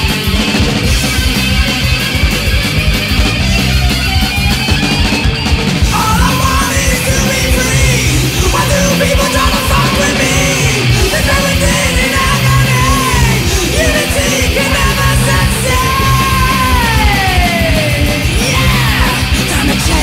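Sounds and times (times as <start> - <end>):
guitar lead sliding down: 0.0 - 20.0
punk metal band playing: 0.0 - 20.0.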